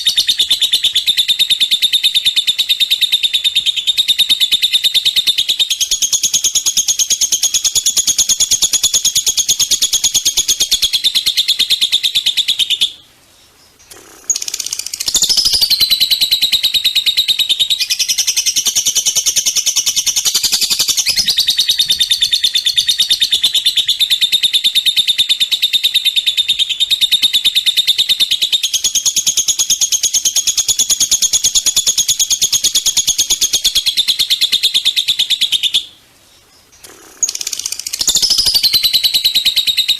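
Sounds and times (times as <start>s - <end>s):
songbird high-pitched trill: 0.0s - 13.1s, 13.7s - 36.0s, 36.6s - 39.9s.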